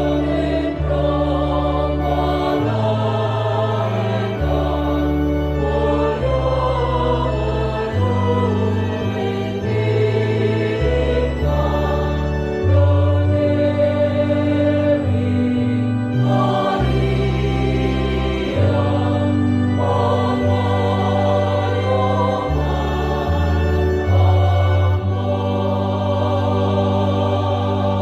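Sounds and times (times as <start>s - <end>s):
church choir singing: 0.0s - 28.0s
held bass notes: 0.0s - 28.0s.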